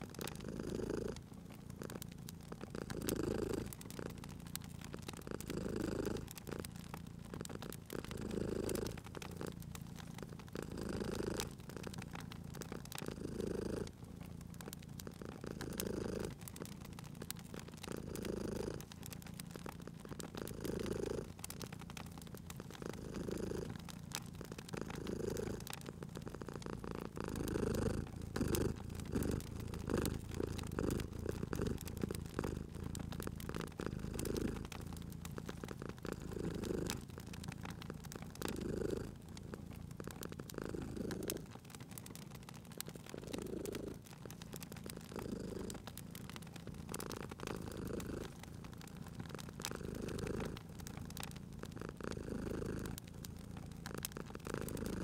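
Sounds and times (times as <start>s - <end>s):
cat purring: 0.0s - 55.0s
wood fire crackling: 0.0s - 55.0s.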